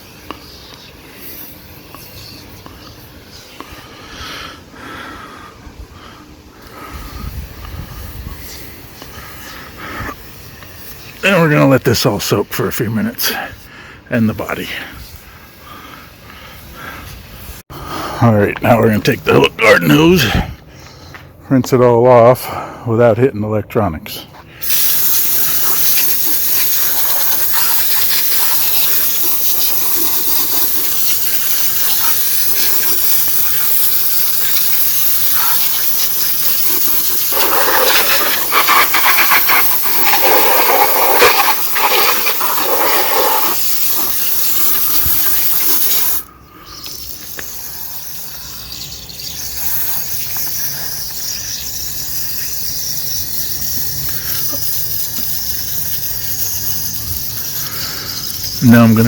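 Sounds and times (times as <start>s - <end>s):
garden hose spraying water: 0.0s - 5.4s, 6.5s - 13.6s, 14.2s - 20.3s, 24.6s - 59.0s.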